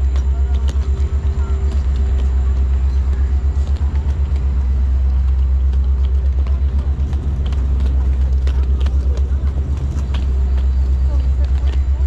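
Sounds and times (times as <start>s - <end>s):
suitcase wheels rumbling on concrete: 0.0s - 12.0s
wheels clicking over pavement joints: 0.0s - 12.0s.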